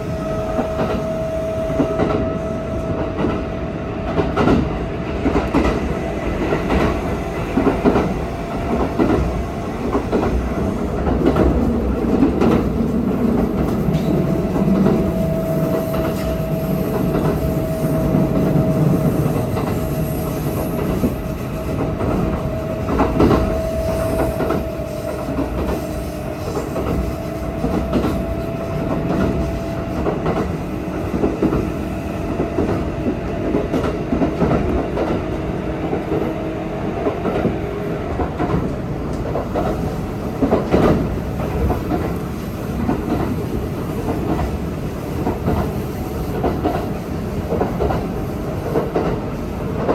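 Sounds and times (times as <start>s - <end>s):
train rumble: 0.0s - 49.9s.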